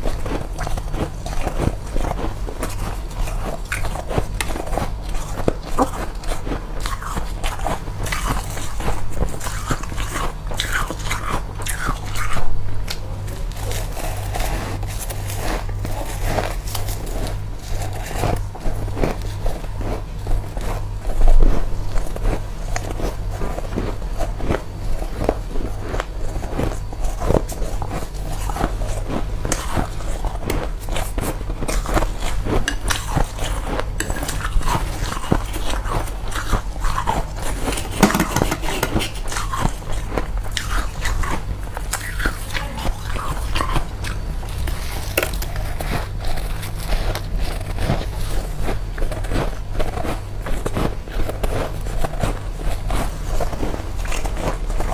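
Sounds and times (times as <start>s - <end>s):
person chewing crunchy frost: 0.0s - 54.9s
steady low hum: 0.0s - 54.9s.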